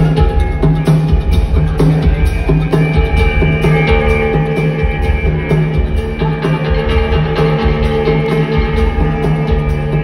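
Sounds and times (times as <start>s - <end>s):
drum kit beat: 0.0s - 10.0s.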